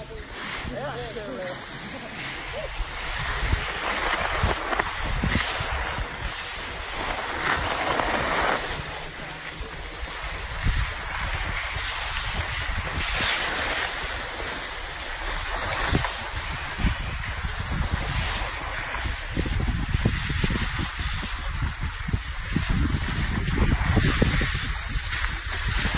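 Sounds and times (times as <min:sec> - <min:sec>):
skis scraping over snow: 0:00.0 - 0:25.9
wind on microphone: 0:02.1 - 0:25.9.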